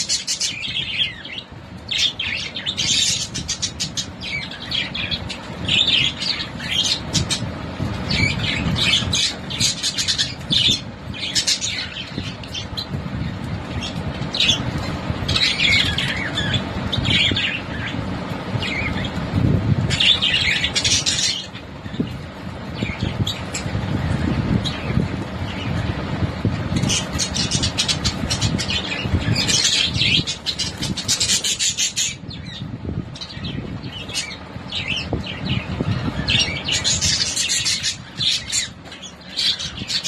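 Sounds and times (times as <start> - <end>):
parrots chirping and squawking: 0.0 - 40.0.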